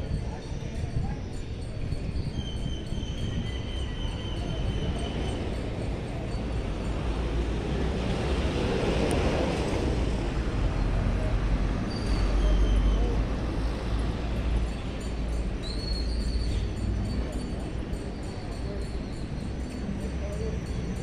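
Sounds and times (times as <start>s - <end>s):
faint voices of passersby: 0.0s - 21.0s
traffic rumble: 0.0s - 21.0s.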